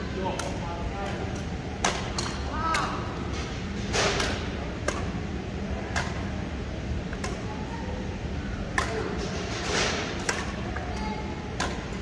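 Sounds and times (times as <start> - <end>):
steady low hum: 0.0 - 12.0
rackets striking shuttlecock: 0.3 - 6.4, 7.1 - 7.5, 8.6 - 12.0.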